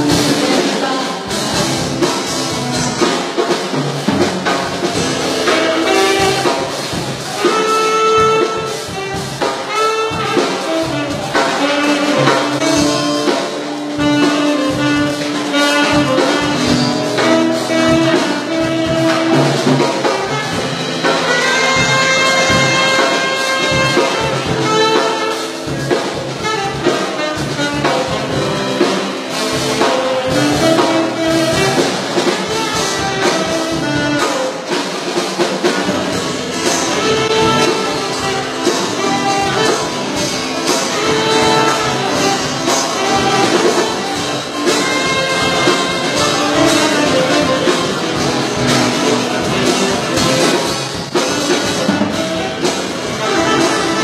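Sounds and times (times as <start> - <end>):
drum kit: 0.0 - 54.0
brass horns holding notes: 4.9 - 34.8, 35.9 - 54.0.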